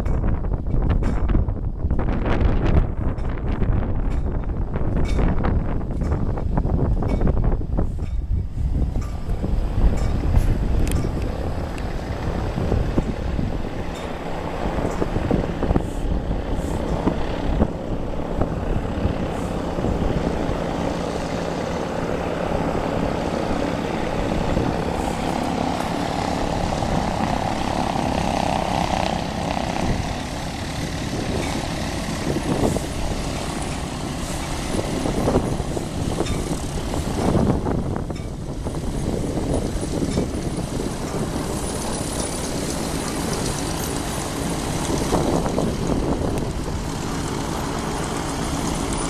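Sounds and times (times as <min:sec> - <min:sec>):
propeller aircraft engines: 0:00.0 - 0:49.0
wind on microphone: 0:00.0 - 0:49.0.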